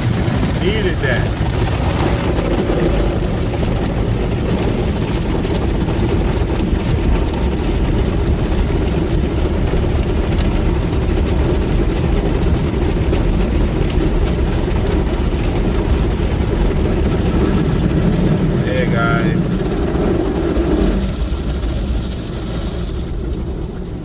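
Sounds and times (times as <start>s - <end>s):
car wash spraying water: 0.0s - 24.0s.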